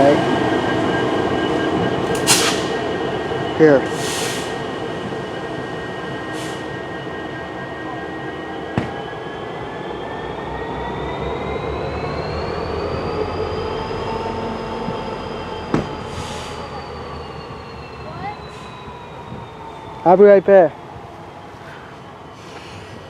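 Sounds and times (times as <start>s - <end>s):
freight train rolling by: 0.0s - 23.0s
steel wheels squealing: 0.5s - 20.7s.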